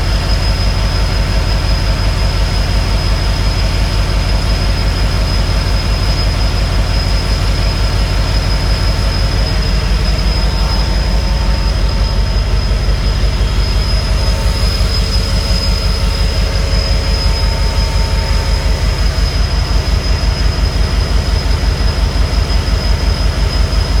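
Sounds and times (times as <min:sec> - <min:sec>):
diesel locomotive engine running: 0:00.0 - 0:24.0
turbocharger whine: 0:00.0 - 0:24.0.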